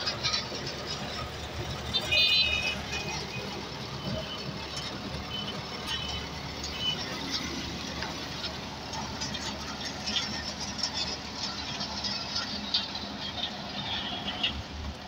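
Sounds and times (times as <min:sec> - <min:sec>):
engines humming: 0:00.0 - 0:15.0
light clatter: 0:00.0 - 0:15.0.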